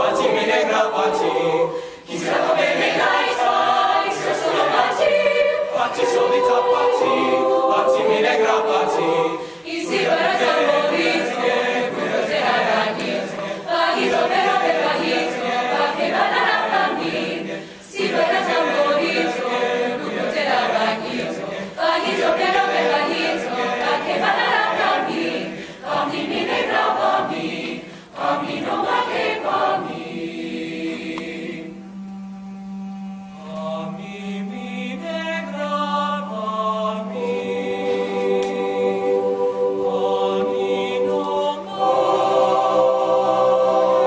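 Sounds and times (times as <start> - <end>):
choir singing a cappella: 0.0 - 44.0.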